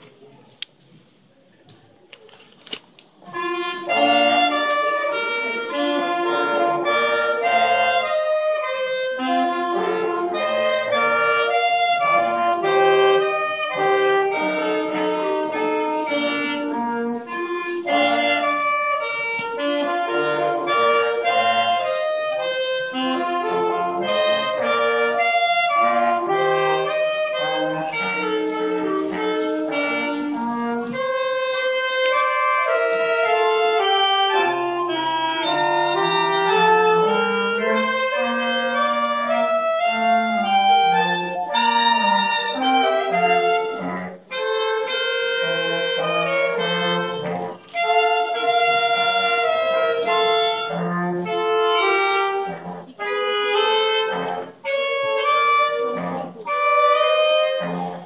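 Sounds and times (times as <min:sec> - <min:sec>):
wind quartet playing: 0:02.6 - 0:58.0.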